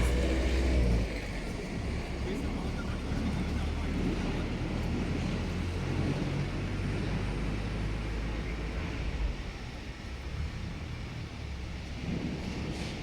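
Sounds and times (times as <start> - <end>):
truck engine running: 0.0 - 12.9.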